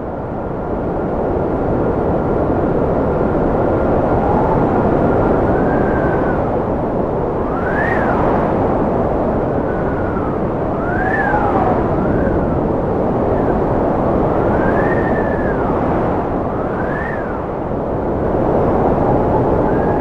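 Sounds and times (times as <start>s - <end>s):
strong whistling wind: 0.0s - 20.0s.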